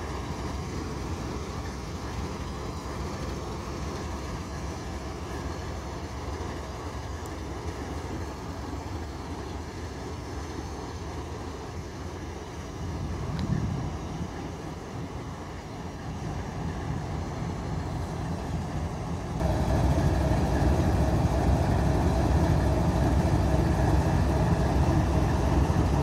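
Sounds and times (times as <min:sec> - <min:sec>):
diesel locomotive rumbling: 0:00.0 - 0:26.0.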